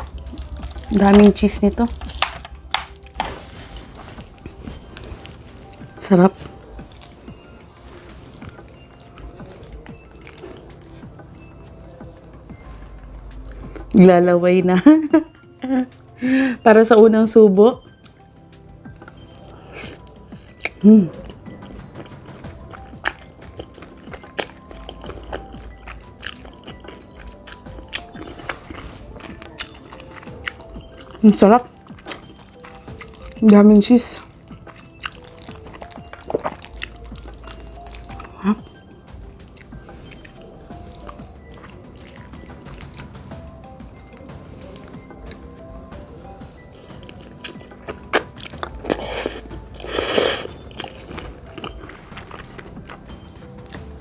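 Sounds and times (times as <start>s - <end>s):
wet chewing sounds: 0.0s - 14.0s, 18.1s - 54.0s
soft background music: 0.0s - 54.0s.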